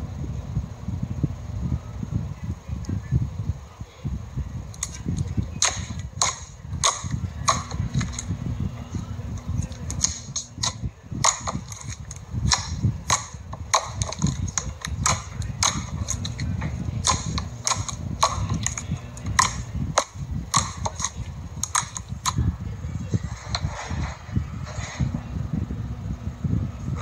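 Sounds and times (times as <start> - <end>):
low rumble of handling: 0.0 - 27.0.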